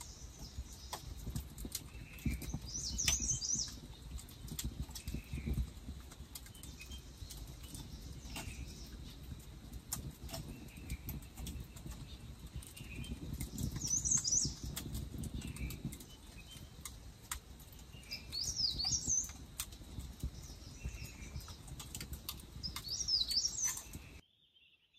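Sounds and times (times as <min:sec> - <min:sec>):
campfire crackling: 0:00.0 - 0:24.2
songbird twittering: 0:00.0 - 0:24.9.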